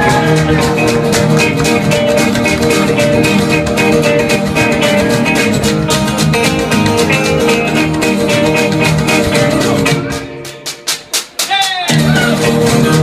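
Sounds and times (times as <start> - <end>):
guitar: 0.0 - 13.0.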